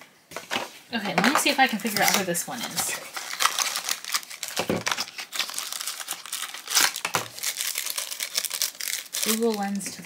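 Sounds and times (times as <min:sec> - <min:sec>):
foil pouch crinkling: 0:01.2 - 0:10.0.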